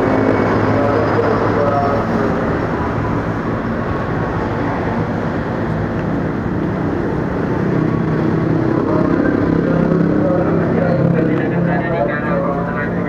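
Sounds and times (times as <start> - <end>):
electric train hum and rush: 0.0 - 13.0.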